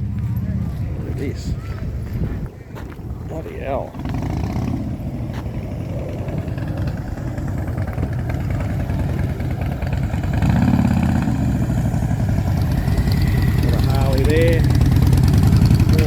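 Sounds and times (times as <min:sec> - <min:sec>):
vehicle engine idling: 0:02.5 - 0:16.0.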